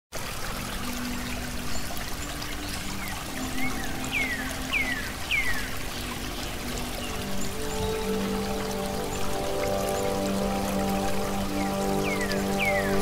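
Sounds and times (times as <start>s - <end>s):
trickling stream: 0.1s - 13.0s
low sustained music notes: 0.2s - 13.0s.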